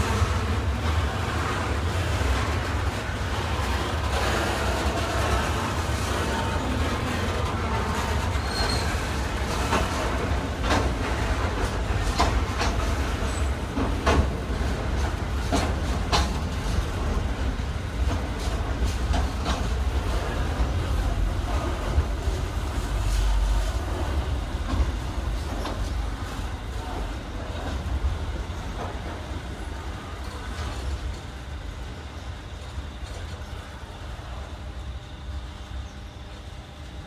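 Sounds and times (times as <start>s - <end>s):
wheels clicking on track: 0.0s - 31.2s
freight train rumbling past: 0.0s - 37.0s.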